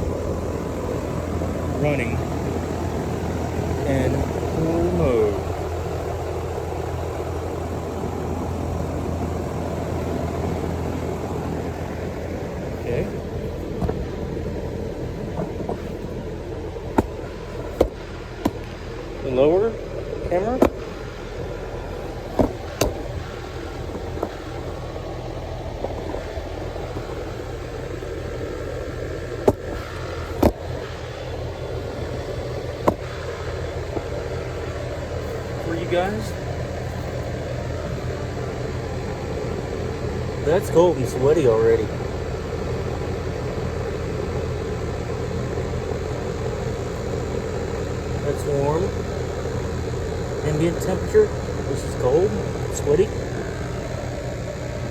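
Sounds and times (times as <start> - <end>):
central air conditioner running: 0.0 - 54.9
compressor hum: 0.0 - 54.9.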